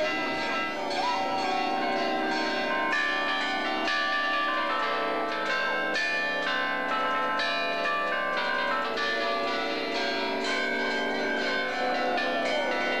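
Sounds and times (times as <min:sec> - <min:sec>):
church bells pealing: 0:00.0 - 0:13.0.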